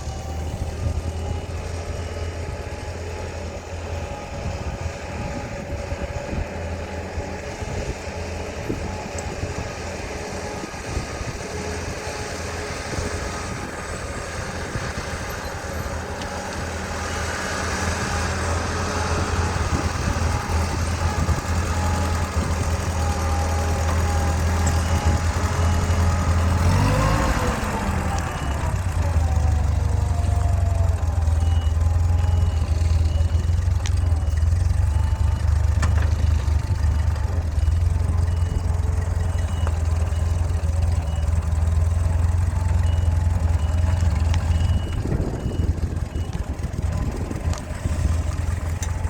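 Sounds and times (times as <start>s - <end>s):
tractor engine idling: 0.0s - 49.0s.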